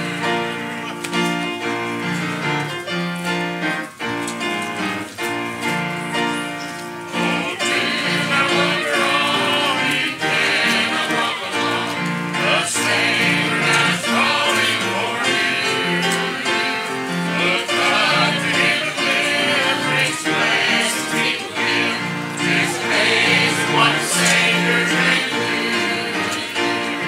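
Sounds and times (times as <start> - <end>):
congregation singing a hymn: 0.0 - 27.0
piano accompaniment: 0.0 - 27.0.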